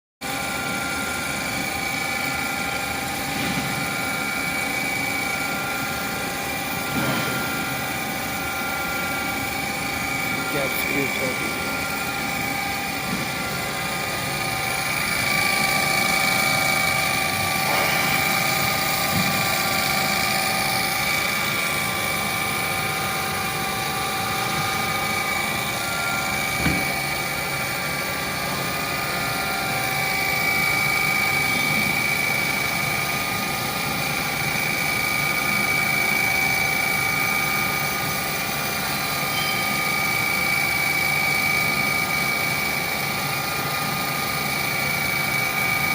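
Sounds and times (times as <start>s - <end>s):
boring mill machine whine: 0.2s - 45.9s.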